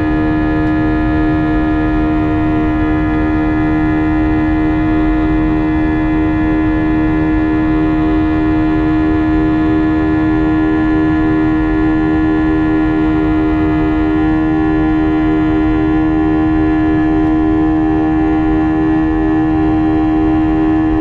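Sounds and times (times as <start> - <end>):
jet engines whining in cabin: 0.0 - 21.0.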